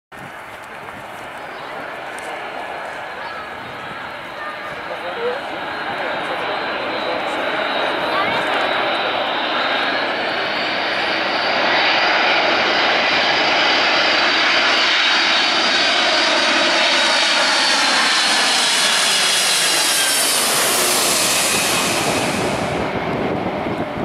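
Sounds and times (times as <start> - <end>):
jet airliner passing overhead: 0.2 - 24.0.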